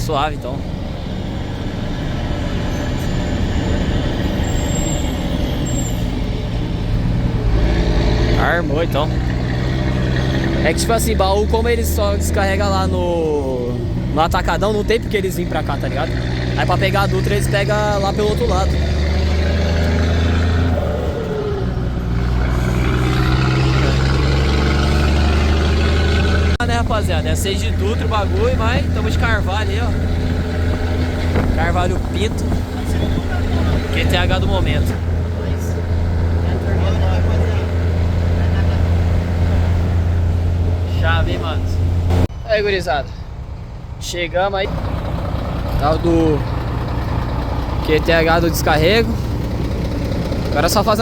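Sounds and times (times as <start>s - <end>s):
truck diesel engine running: 0.0s - 42.3s, 44.7s - 51.0s.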